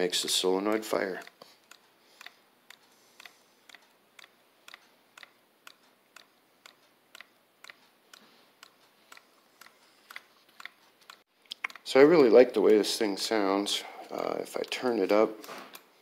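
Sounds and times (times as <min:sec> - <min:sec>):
solenoid engine clicking: 0:00.0 - 0:16.0.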